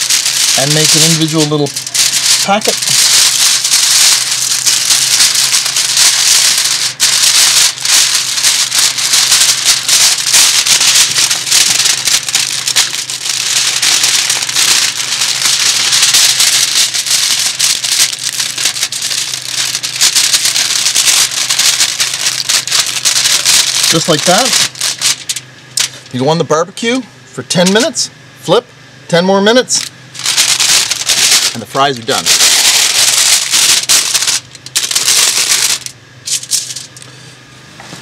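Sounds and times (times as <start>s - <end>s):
aluminium foil crinkling: 0.0s - 26.2s, 29.8s - 37.1s.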